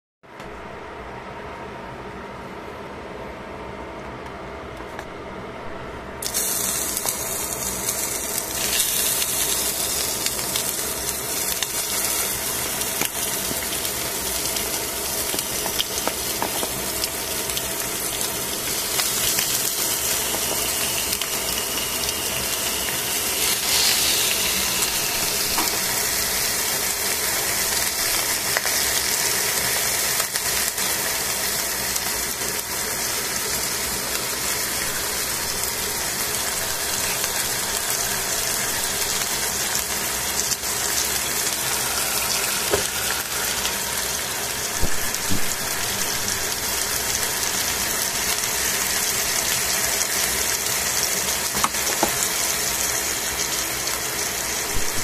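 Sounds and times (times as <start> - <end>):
chicken sizzling in a pan: 6.2 - 55.0.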